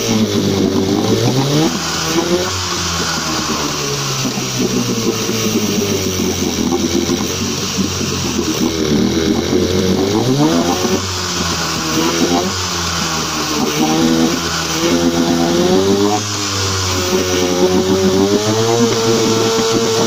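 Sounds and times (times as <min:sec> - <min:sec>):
outboard motor revving: 0:00.0 - 0:20.0.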